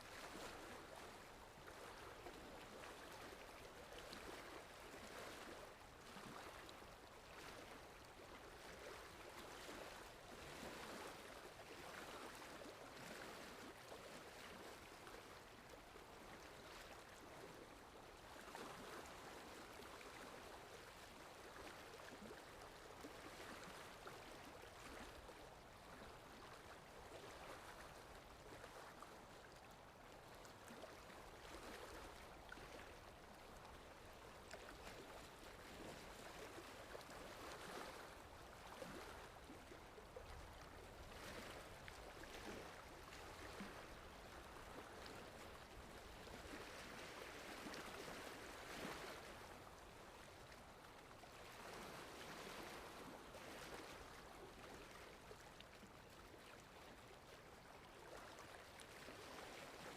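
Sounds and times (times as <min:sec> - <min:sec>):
faint sea waves: 0:00.0 - 0:59.9.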